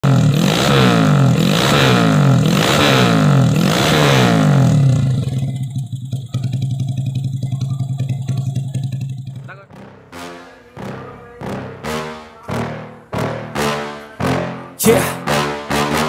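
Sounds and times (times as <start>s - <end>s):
motorcycle engine idling: 0.0s - 13.5s
motorcycle engine revving: 0.0s - 16.0s.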